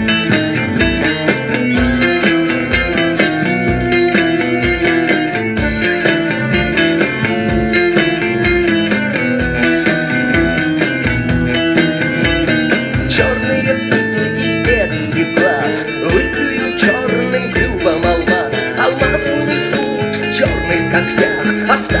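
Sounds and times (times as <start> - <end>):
rock instrumental with guitars and drums: 0.0 - 22.0.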